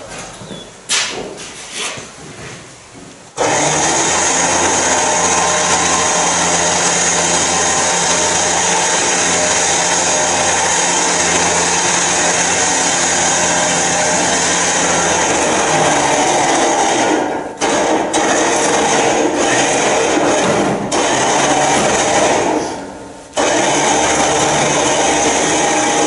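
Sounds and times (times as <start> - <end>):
electric winch motor whirring: 3.4 - 22.8, 23.4 - 26.0.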